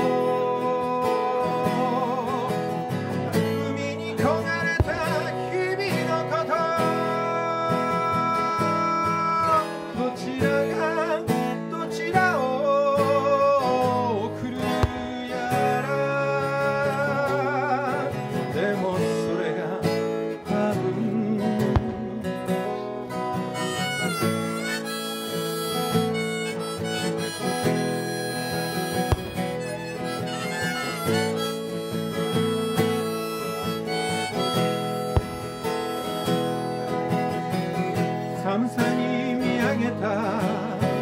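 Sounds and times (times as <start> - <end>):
harmonica melody: 0.0 - 18.6, 21.2 - 41.0
strummed acoustic guitar: 0.0 - 41.0.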